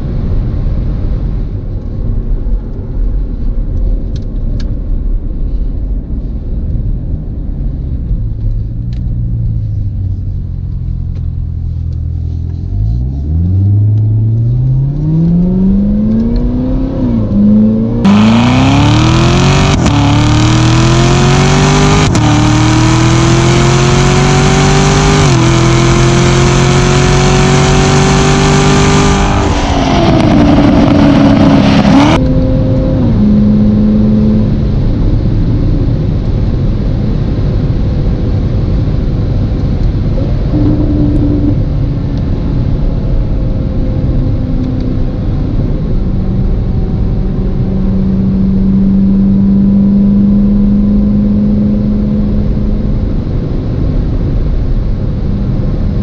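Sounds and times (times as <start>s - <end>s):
car engine accelerating and shifting: 0.0s - 56.0s
engine droning while cruising: 0.8s - 56.0s.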